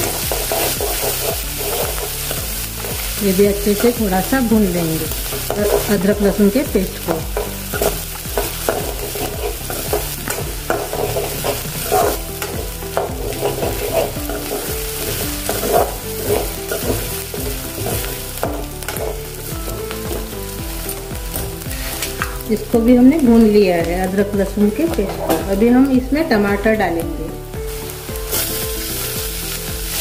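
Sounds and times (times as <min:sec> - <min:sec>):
spoon scraping a pan: 0:00.0 - 0:22.7, 0:24.2 - 0:25.8, 0:27.7 - 0:30.0
onions sizzling in hot oil: 0:00.0 - 0:30.0.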